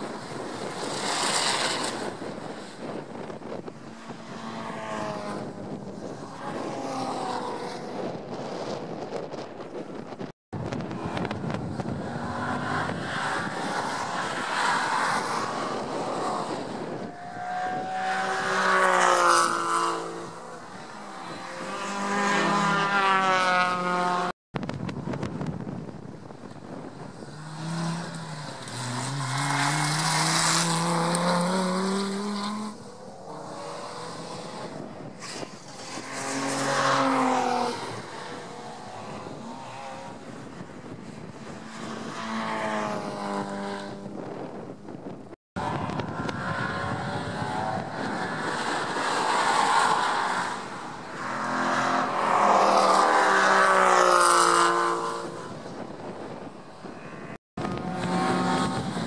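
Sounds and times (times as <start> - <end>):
racing cars passing: 0.0 - 24.4, 25.8 - 59.0.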